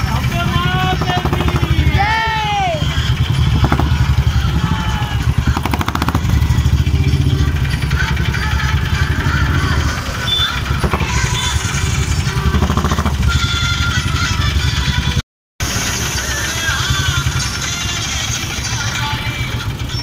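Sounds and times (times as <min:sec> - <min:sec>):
motorcycle and vehicle engines running: 0:00.0 - 0:20.0.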